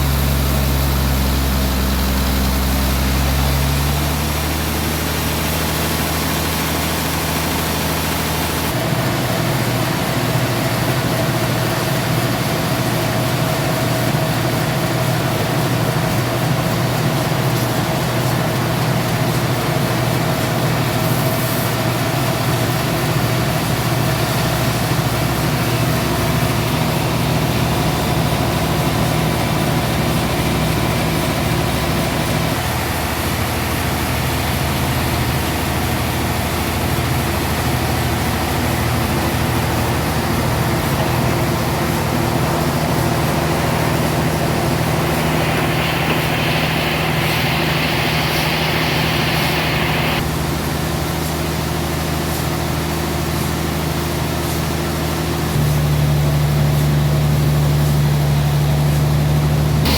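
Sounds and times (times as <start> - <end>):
high machine whine: 0.0 - 53.2, 55.5 - 59.9
sawmill machinery drone: 0.0 - 59.9.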